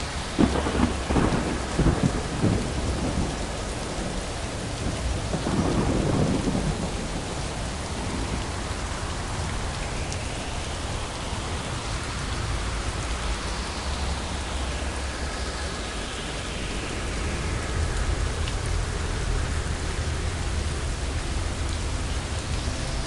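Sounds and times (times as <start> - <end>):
low rumble: 0.0 - 23.0
steady rain hiss: 0.0 - 23.0.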